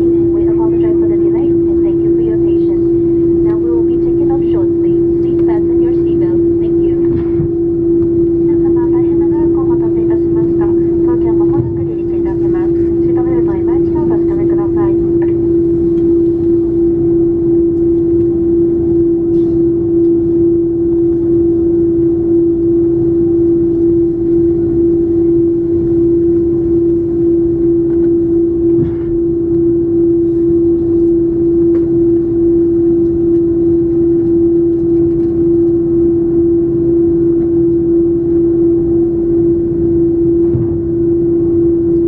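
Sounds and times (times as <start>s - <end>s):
aircraft cabin engine rumble: 0.0s - 42.0s.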